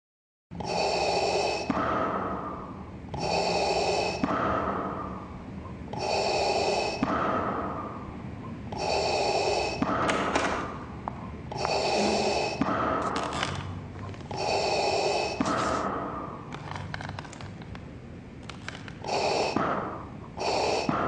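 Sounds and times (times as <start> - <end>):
mechanical respirator breathing: 0.6 - 17.8, 18.4 - 21.0.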